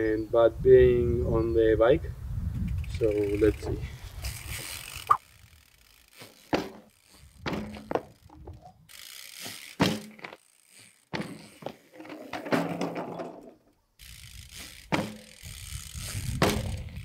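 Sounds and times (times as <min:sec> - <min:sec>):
bike thudding on pavement: 0:02.5 - 0:17.0.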